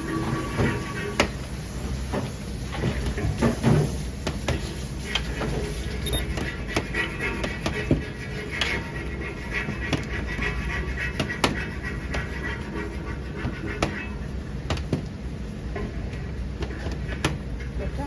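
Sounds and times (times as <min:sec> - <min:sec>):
low kitchen hum: 0:00.0 - 0:18.0.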